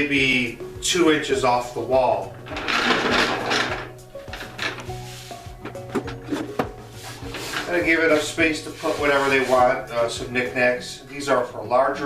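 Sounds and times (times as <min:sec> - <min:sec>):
background music with held tones: 0:00.0 - 0:12.0.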